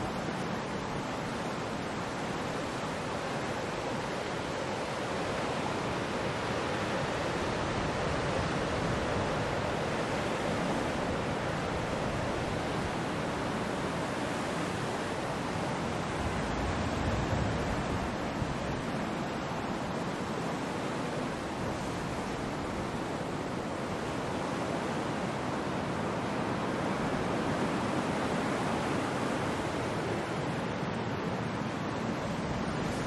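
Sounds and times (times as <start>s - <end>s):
waves breaking: 0.0s - 33.0s.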